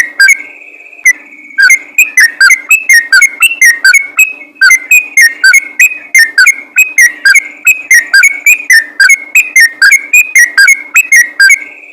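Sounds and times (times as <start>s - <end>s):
bird singing whistled notes: 0.0s - 11.9s.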